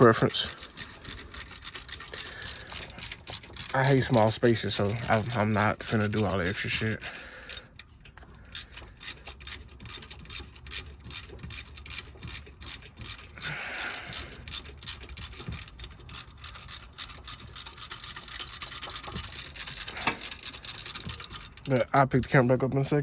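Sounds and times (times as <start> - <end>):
ratchet wrench clicking: 0.0 - 22.5.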